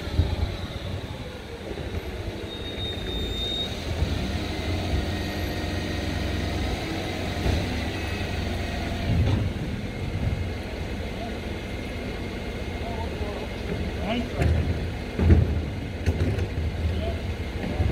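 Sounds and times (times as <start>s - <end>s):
truck diesel engine rumbling: 0.0s - 17.9s.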